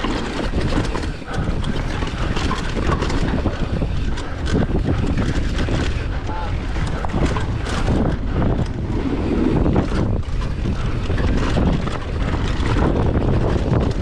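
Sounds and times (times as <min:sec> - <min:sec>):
bike clattering and knocking: 0:00.0 - 0:08.8, 0:09.5 - 0:14.0
bike tyres rolling over rocky dirt: 0:00.0 - 0:14.0
wind buffeting microphone: 0:00.0 - 0:14.0.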